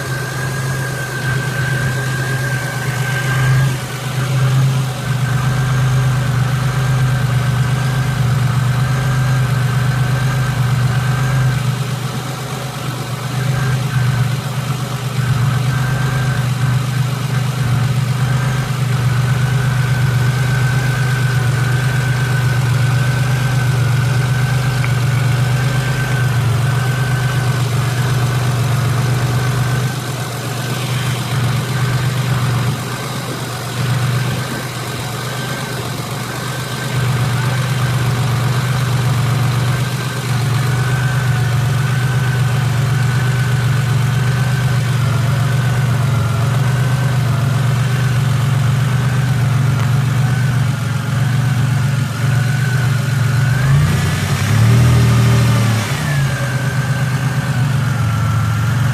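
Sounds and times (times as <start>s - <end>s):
car engine idling: 0.0s - 58.9s
high-pitched engine whine: 0.0s - 58.9s.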